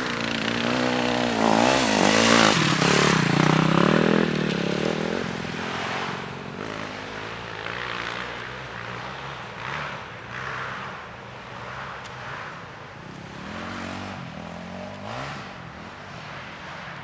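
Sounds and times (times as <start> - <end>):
motorcycle engine revving: 0.0 - 11.0, 13.0 - 15.9.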